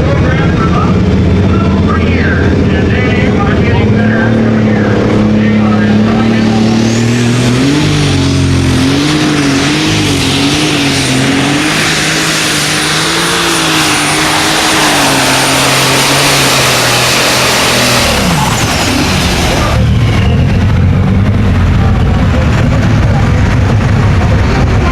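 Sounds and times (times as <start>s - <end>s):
turbo whine: 0.0s - 24.8s
diesel engine at full throttle: 0.0s - 24.9s.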